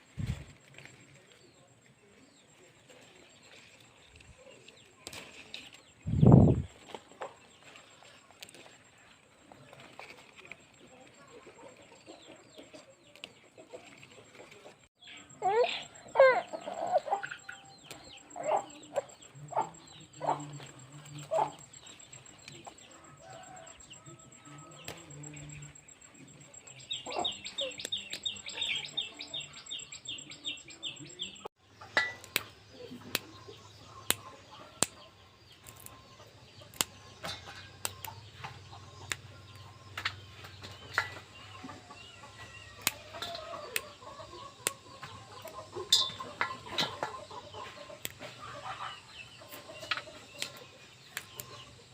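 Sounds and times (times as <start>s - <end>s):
chickens clucking: 0.2s - 51.9s.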